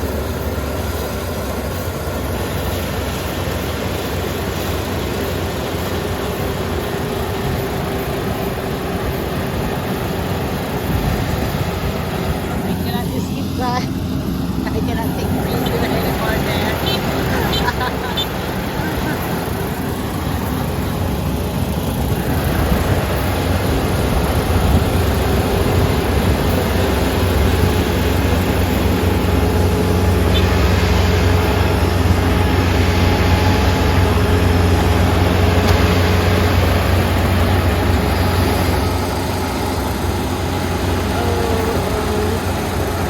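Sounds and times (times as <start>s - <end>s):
combine harvester engine running: 0.0s - 43.0s.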